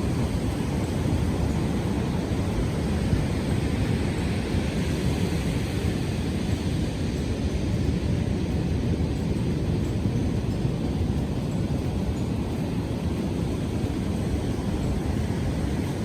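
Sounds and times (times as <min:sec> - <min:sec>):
beach wind: 0:00.0 - 0:16.0
ocean surf: 0:00.0 - 0:16.0.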